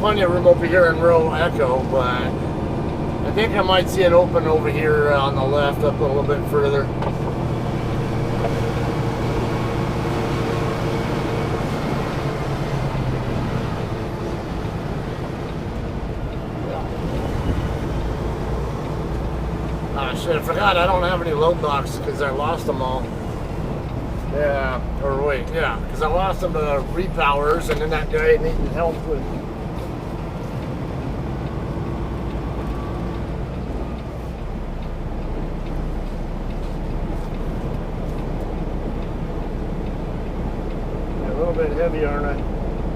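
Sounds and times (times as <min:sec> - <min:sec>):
diesel truck engine humming: 0:00.0 - 0:42.9.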